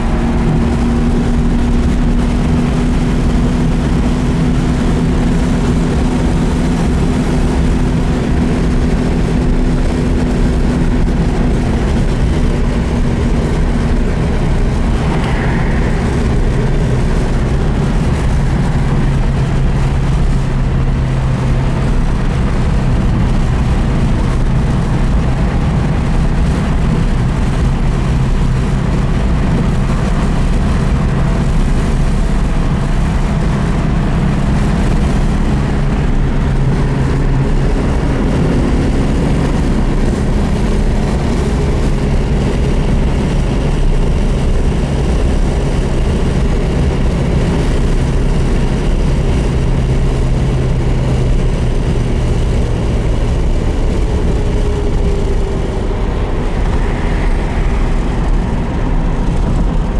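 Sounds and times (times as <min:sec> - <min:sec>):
car engine cruising: 0:00.0 - 0:59.9
road noise: 0:00.0 - 0:59.9
wind noise: 0:00.0 - 0:59.9.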